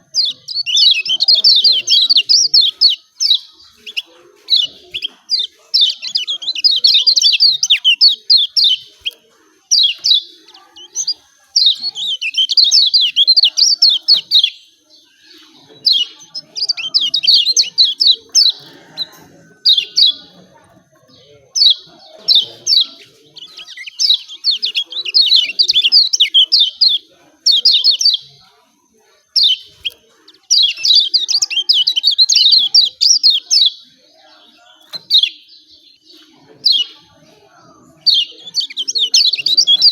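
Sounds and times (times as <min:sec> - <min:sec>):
bird chattering with high chirps: 0:00.0 - 0:39.9.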